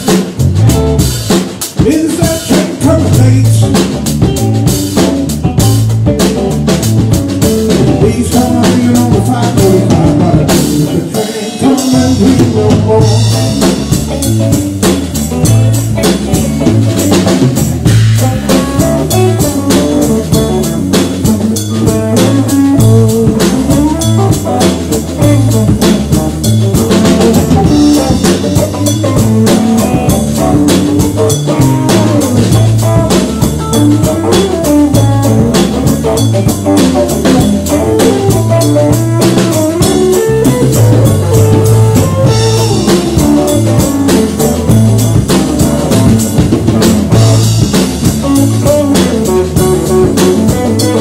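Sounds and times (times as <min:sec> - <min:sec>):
blues guitar: 0:00.0 - 0:51.0
drum kit beat: 0:00.0 - 0:51.0.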